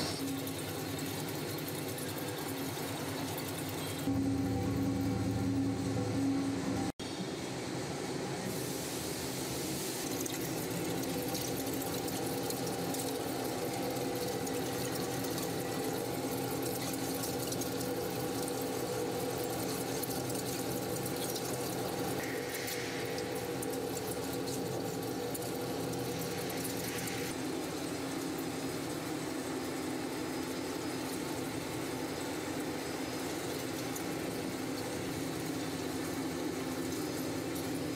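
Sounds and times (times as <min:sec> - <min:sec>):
machinery hum: 0:00.0 - 0:37.9.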